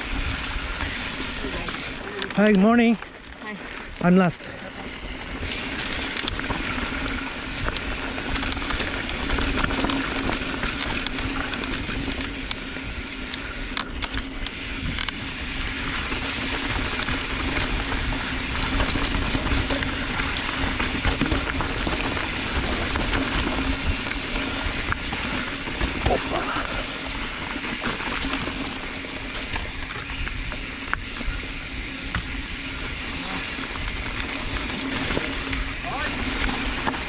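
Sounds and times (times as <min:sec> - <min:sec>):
bike rattles and knocks: 0:00.0 - 0:37.0
tyre noise on dirt: 0:04.7 - 0:37.0.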